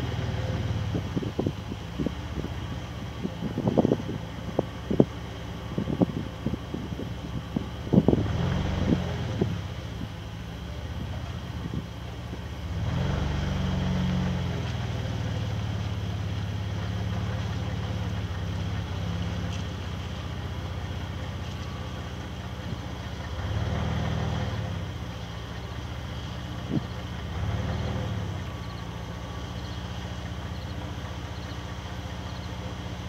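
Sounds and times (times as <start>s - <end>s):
engine running and revving: 0.0s - 33.0s.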